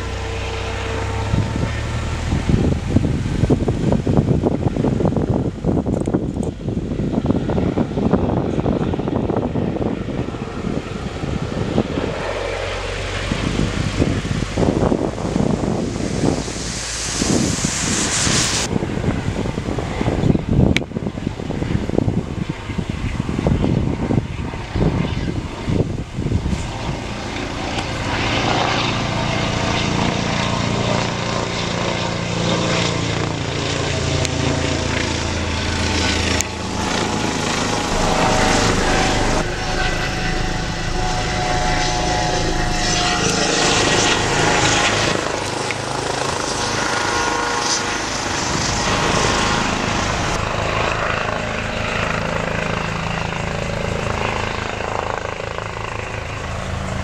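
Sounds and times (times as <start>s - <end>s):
helicopter engine whine: 0.0s - 57.0s
helicopter rotor beating: 0.0s - 57.0s.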